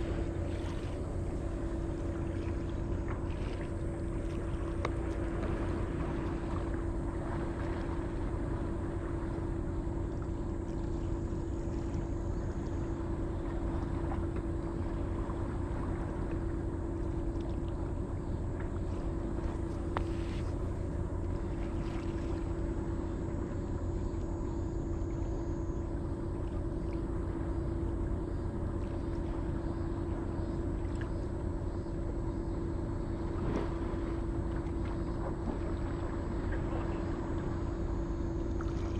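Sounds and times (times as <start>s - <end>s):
steady motor drone: 0.0s - 38.9s.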